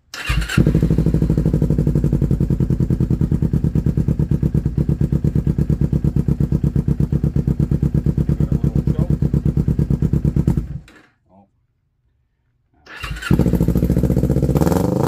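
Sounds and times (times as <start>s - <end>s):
motorcycle engine idling: 0.4s - 10.9s, 13.3s - 15.0s.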